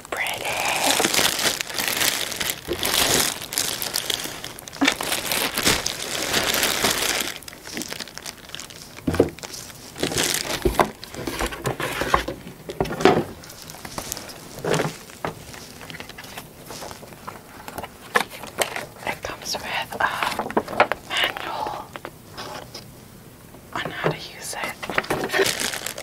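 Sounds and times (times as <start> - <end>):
plastic bag crinkling: 0.0 - 22.9, 23.8 - 26.0.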